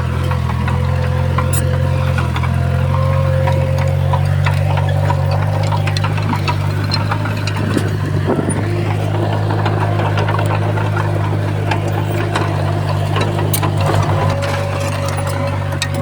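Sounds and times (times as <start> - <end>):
heavy diesel engine running: 0.0 - 16.0
scattered clicks and knocks: 0.0 - 16.0.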